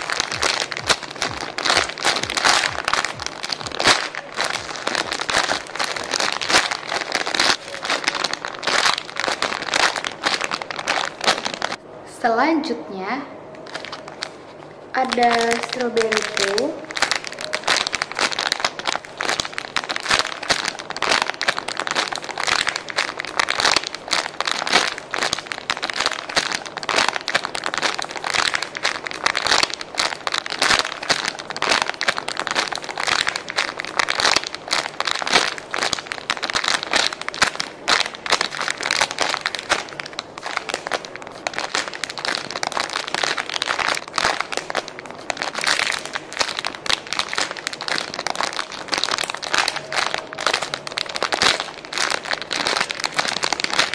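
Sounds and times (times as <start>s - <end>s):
plastic bag crinkling: 0.0s - 11.8s, 13.6s - 53.9s.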